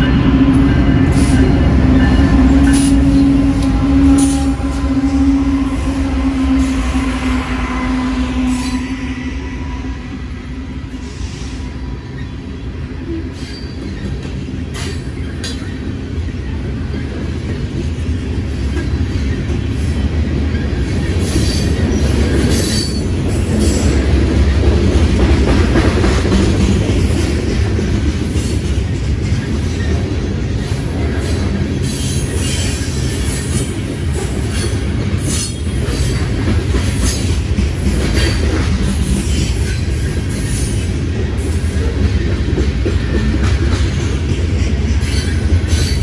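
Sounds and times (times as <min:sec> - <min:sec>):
freight train wheels rumbling on rail: 0:00.0 - 0:46.0.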